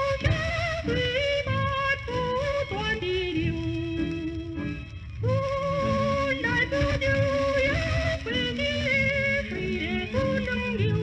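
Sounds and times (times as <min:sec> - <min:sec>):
instrumental accompaniment: 0:00.0 - 0:11.0
woman singing with vibrato: 0:00.0 - 0:11.0.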